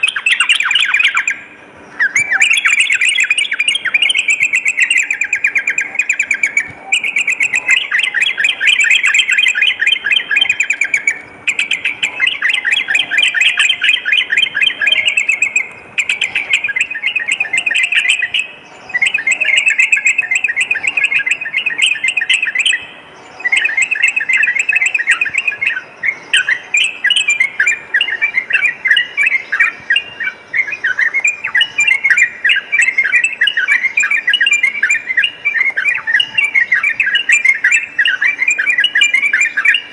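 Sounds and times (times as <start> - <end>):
bird singing rapid chattering phrases: 0.0 - 39.9.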